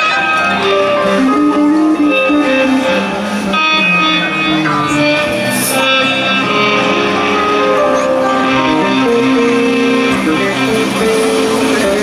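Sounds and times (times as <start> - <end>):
electric guitar held notes: 0.0 - 12.0
keyboard held notes: 0.0 - 12.0.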